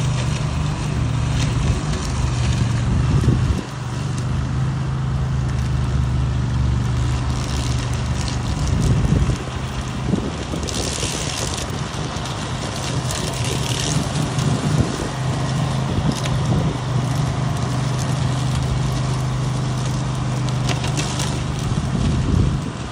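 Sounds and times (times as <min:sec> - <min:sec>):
flails crackling through vegetation: 0:00.0 - 0:22.9
mower engine running: 0:00.0 - 0:22.9.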